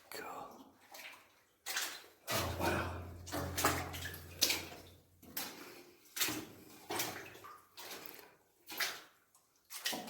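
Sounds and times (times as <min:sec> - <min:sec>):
footsteps sloshing through water: 0:00.2 - 0:10.0.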